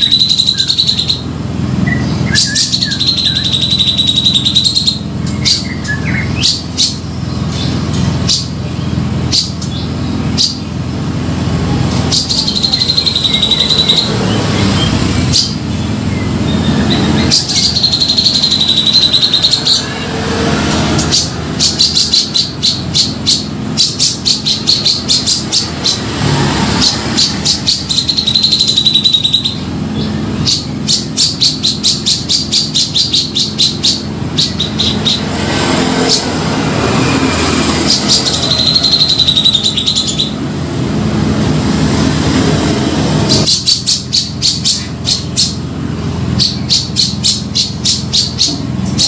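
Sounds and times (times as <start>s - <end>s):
bulbul singing: 0.0s - 49.0s.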